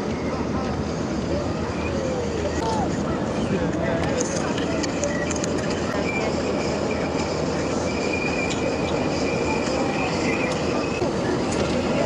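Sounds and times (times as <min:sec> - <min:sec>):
high-pitched machinery whine: 0:00.0 - 0:12.0
ship machinery rumble: 0:00.0 - 0:12.0.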